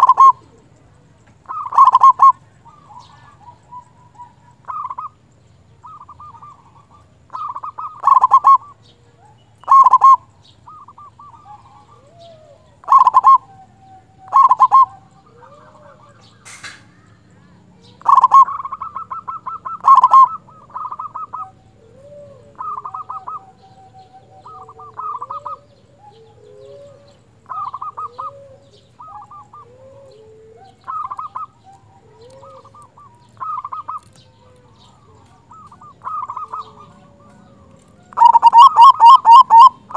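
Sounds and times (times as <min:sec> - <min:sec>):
dove rattling coos: 0:00.0 - 0:00.8, 0:01.4 - 0:08.8, 0:09.6 - 0:13.5, 0:14.2 - 0:39.9
soft low arching bird notes: 0:00.0 - 0:39.9.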